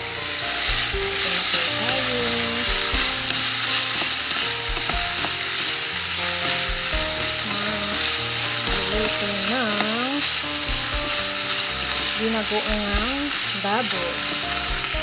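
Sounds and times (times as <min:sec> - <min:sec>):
background music: 0:00.0 - 0:15.0
meat sizzling in a frying pan: 0:00.0 - 0:15.0
wooden spatula stirring: 0:00.0 - 0:15.0.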